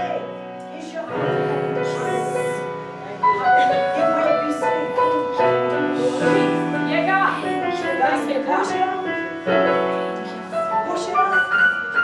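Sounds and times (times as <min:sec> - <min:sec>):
church keyboard sustained chords: 0:00.0 - 0:12.0.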